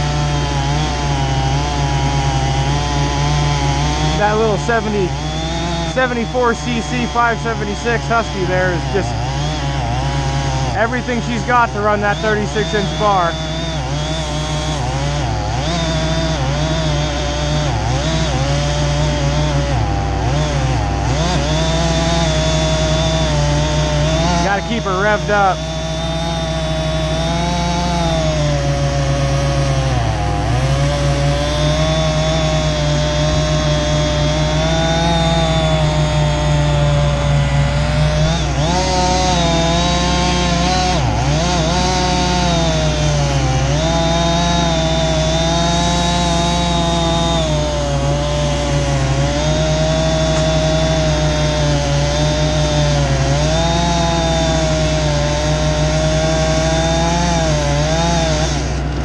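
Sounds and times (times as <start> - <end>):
chainsaw cutting at full throttle: 0.0 - 59.0.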